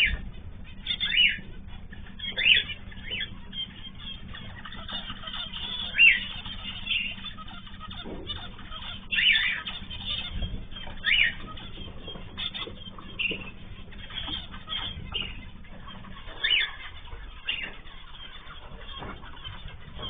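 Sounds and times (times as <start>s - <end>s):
bird chatter: 0.0s - 20.0s.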